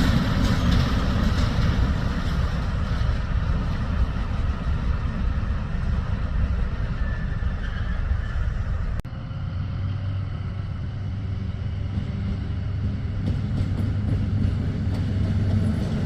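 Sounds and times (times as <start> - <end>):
locomotive rumble and hum: 0.0 - 16.0.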